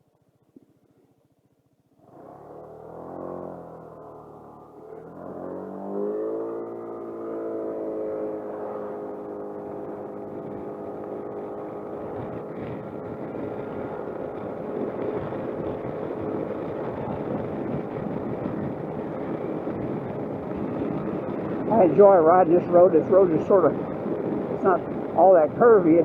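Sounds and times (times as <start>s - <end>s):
scooter engine running: 1.9s - 26.0s
wind and road noise: 2.0s - 26.0s.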